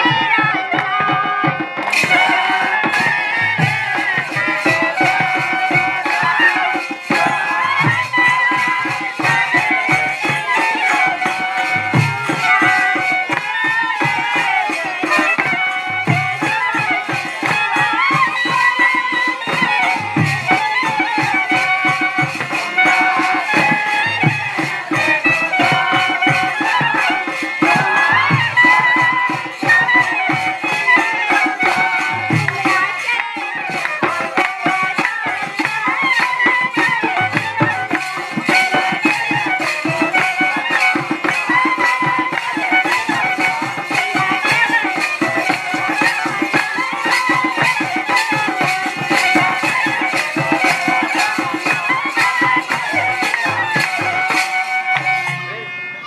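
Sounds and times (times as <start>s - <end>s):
drum beating quick rhythm: 0.0s - 55.3s
folk music with wavering melody: 0.0s - 56.0s.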